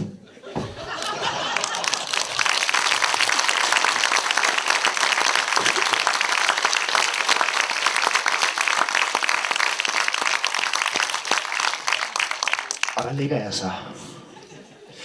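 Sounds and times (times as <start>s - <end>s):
audience applauding: 0.8s - 13.3s.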